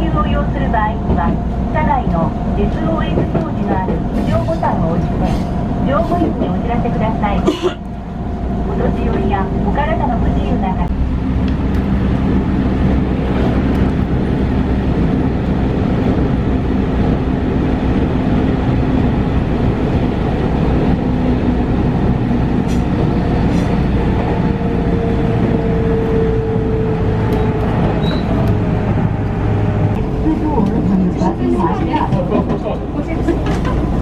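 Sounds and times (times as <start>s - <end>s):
train wheels rumbling on rails: 0.0s - 34.0s
low motor hum: 4.9s - 32.3s.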